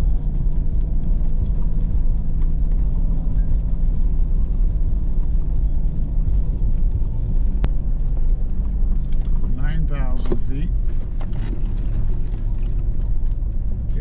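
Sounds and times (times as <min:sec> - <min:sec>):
engine and drivetrain drone: 0:00.0 - 0:14.0.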